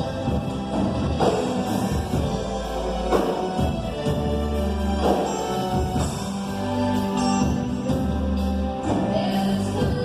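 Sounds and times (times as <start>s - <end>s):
drum kit beat: 0.0s - 10.0s
gospel band music: 0.0s - 10.0s.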